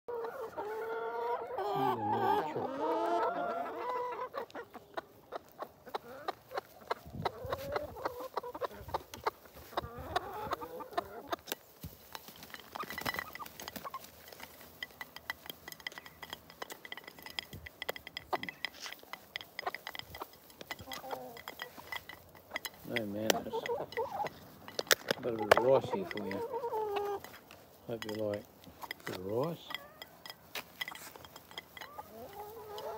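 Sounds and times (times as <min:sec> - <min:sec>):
beaks pecking at the ground: 0:00.1 - 0:32.9
hens clucking: 0:00.1 - 0:32.9.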